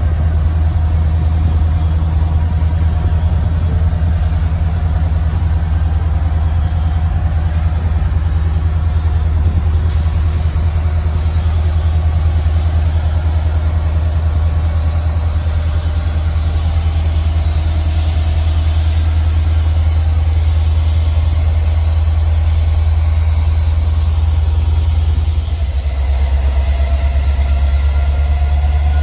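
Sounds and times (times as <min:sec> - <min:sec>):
diesel locomotive engine throbbing: 0:00.0 - 0:29.0.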